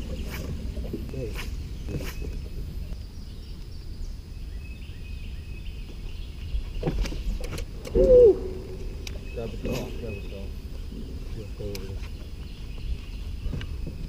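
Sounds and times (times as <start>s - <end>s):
faint high chirping calls: 0.0s - 14.0s
low outdoor rumble: 0.0s - 14.0s.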